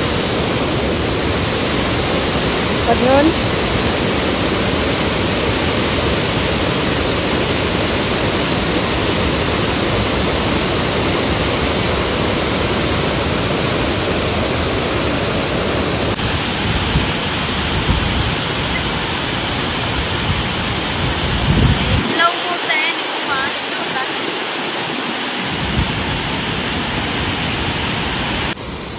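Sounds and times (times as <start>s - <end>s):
waterfall roar: 0.0s - 28.9s.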